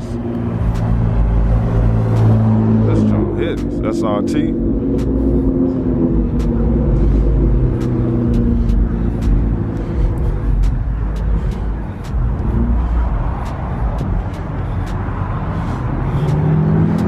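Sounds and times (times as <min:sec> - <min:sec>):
car engine rumbling: 0:00.0 - 0:17.0
regular ticking: 0:00.0 - 0:17.0.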